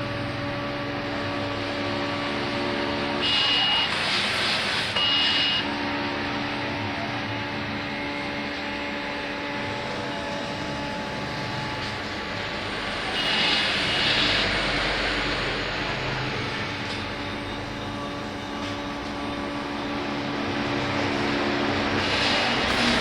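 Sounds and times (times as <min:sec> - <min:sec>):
hiss and high whine: 0:00.0 - 0:23.0
motor tones: 0:00.0 - 0:23.0
plotter mechanical hum: 0:00.0 - 0:23.0.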